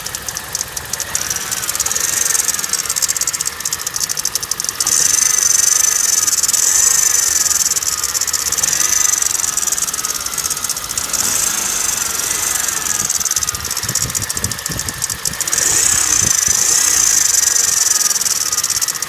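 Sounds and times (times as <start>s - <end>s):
car engine knocking: 0.0s - 19.0s.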